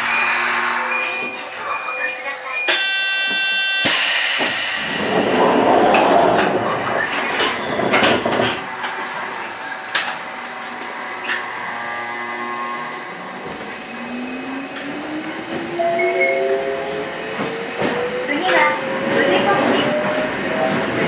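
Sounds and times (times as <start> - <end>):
train motor whine rising: 0.0 - 1.4, 2.8 - 20.3
train clicks and knocks: 2.4 - 21.0.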